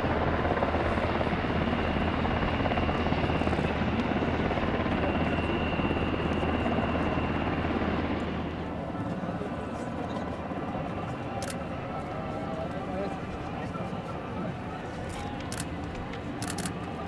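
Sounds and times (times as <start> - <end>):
aircraft engines roaring: 0.0 - 17.0.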